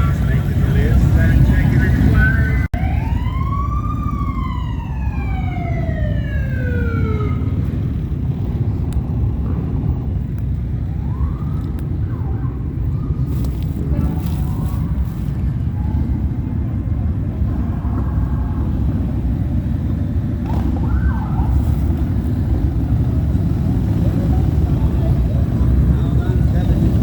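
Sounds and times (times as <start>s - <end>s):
emergency vehicle siren: 0.0s - 27.0s
low rumble: 0.0s - 27.0s.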